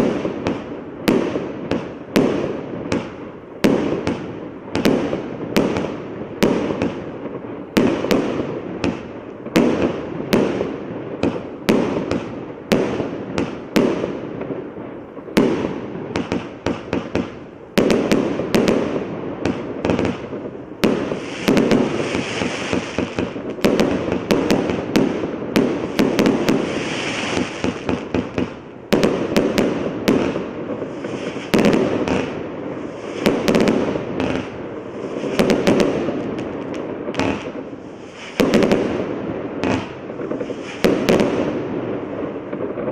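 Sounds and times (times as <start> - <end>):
fireworks bangs: 0.0 - 42.9
fireworks crackling: 0.0 - 42.9.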